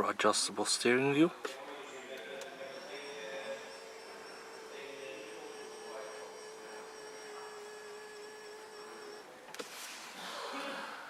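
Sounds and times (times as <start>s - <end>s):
faint background noise: 0.0s - 11.0s
steady single-tone hum: 0.0s - 11.0s.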